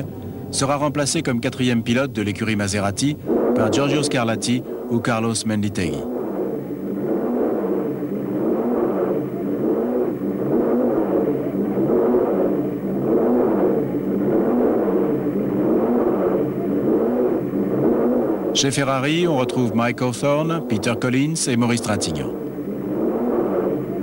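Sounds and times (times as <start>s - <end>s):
racing car engine revving: 2.7s - 24.0s.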